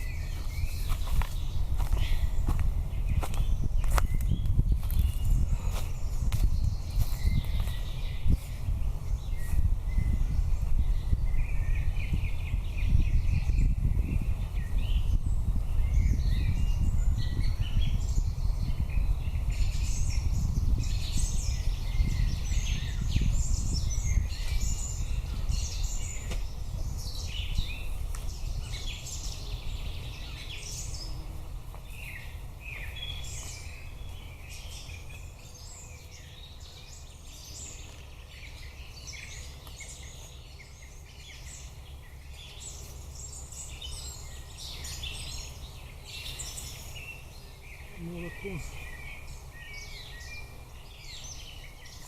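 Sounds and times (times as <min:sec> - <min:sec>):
songbirds chirping and trilling: 0:00.0 - 0:52.0.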